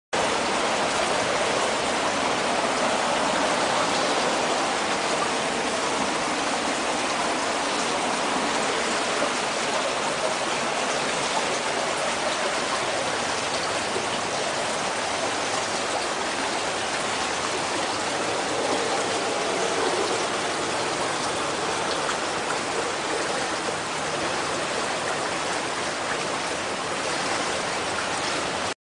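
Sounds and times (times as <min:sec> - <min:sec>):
floodwater rushing: 0:00.2 - 0:28.8.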